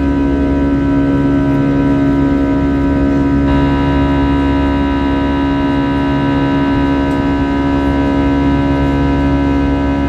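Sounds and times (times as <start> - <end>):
jet engine drone in cabin: 0.0 - 10.0.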